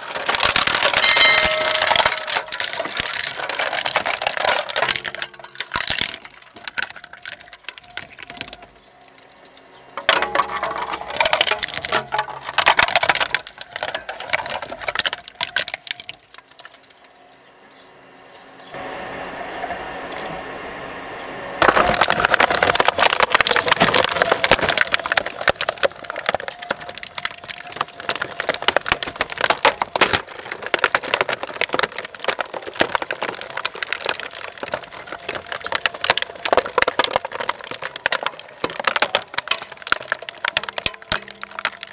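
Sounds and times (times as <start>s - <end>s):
shredder crunching hard plastic: 0.0s - 17.0s, 21.6s - 41.9s
high machine whine: 0.0s - 41.9s.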